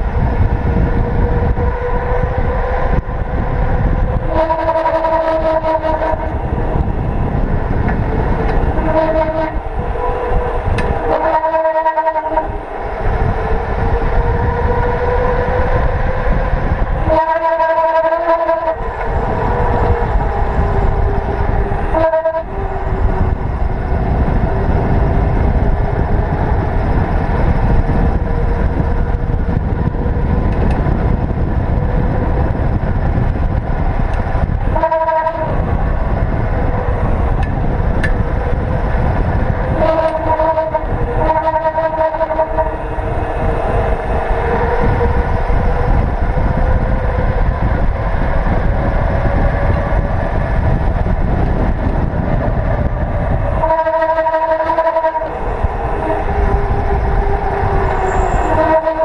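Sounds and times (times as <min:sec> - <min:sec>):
bicycle tyres humming on asphalt: 0:00.0 - 0:59.0
wind buffeting microphone: 0:00.0 - 0:59.0.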